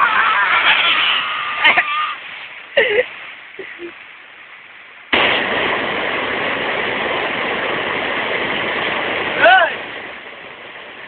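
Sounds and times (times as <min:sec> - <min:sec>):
stream water rushing over rocks: 0:00.0 - 0:11.0.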